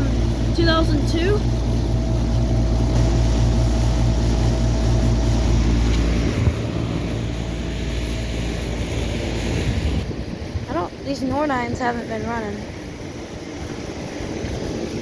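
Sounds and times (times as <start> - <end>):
air-conditioning unit humming: 0.0 - 15.0.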